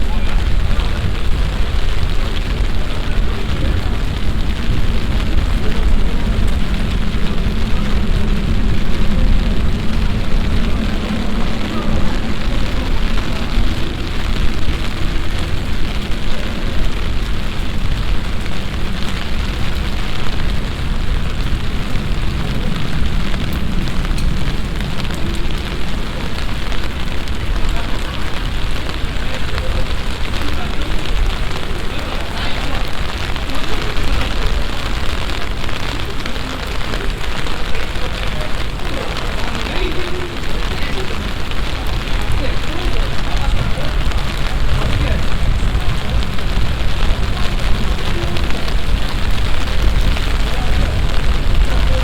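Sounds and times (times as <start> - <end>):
deep low rumble: 0.0 - 52.0
heavy rain hissing: 0.0 - 52.0.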